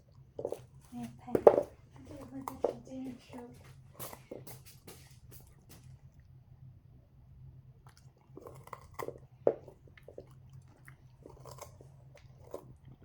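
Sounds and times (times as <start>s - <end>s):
dog crunching a carrot: 0.0s - 6.6s, 7.5s - 13.0s.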